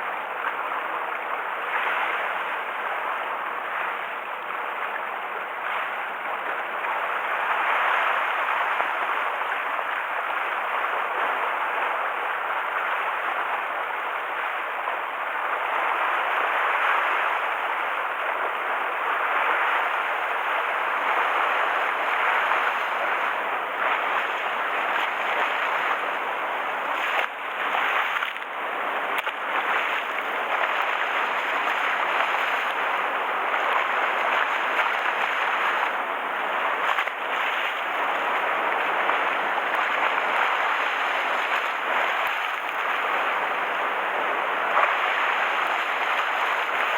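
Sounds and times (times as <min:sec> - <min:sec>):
rough waves washing: 0:00.0 - 0:46.9.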